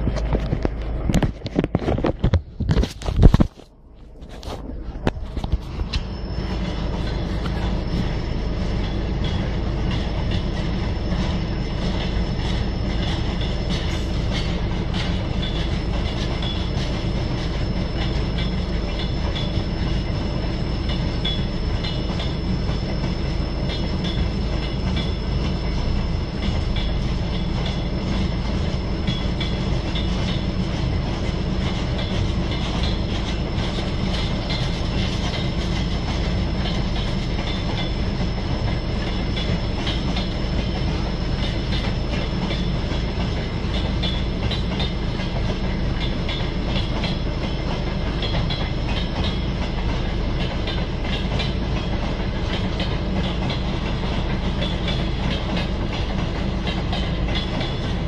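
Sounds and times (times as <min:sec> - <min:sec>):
freight train rumbling past: 0:04.2 - 0:58.0.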